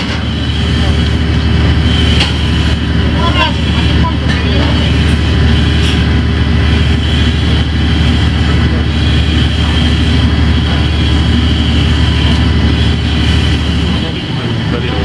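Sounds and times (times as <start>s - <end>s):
industrial machinery hum: 0.0s - 15.0s.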